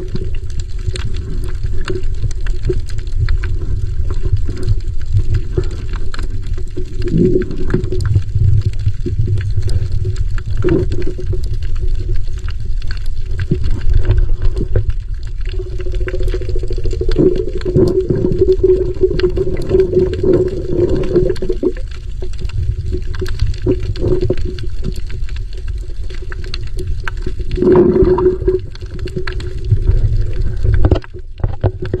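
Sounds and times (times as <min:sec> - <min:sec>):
underwater rushing rumble: 0:00.0 - 0:32.0.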